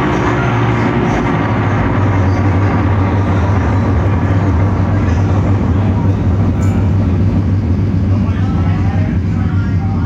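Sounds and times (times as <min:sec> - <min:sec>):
electric guitar ambient drone: 0:00.0 - 0:10.0.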